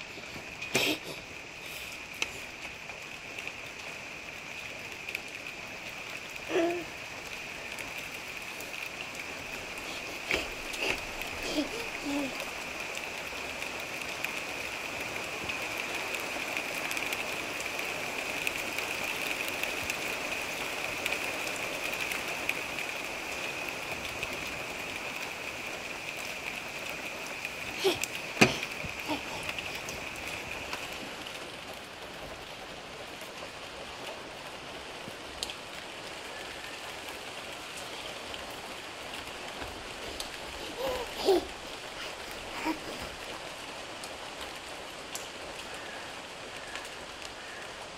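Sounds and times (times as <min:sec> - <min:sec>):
raindrops ticking: 0:00.0 - 0:47.9
steady rain hiss: 0:00.0 - 0:47.9.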